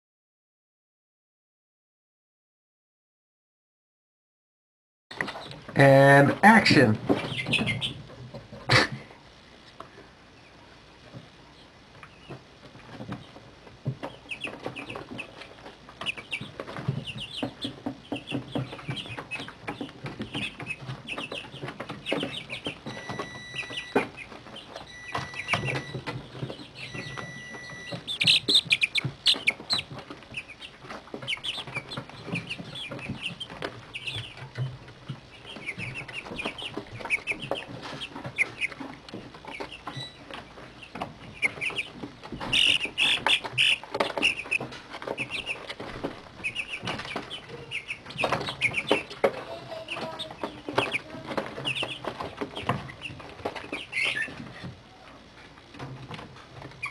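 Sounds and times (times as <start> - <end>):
chicks peeping and chirping: 5.1 - 56.9.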